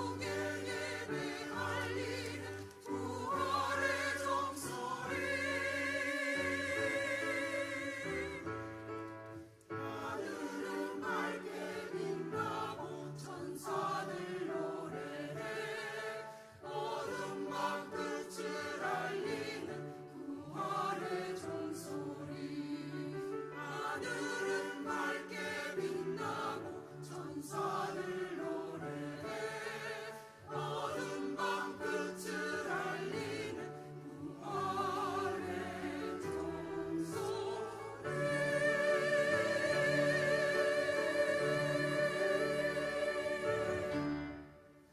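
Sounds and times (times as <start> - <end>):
choir singing in parts: 0.0 - 44.9.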